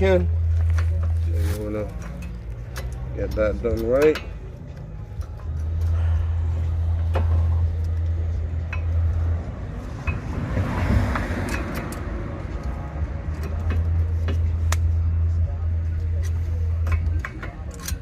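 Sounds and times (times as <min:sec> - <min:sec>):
steady low hum: 0:00.0 - 0:18.0
metallic clicks of brake pads: 0:00.4 - 0:06.0, 0:06.9 - 0:15.1, 0:15.9 - 0:18.0.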